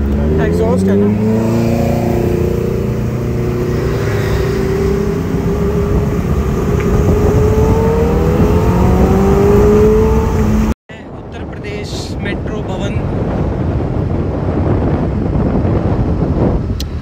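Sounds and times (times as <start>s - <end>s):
wind and road rush: 0.0s - 17.0s.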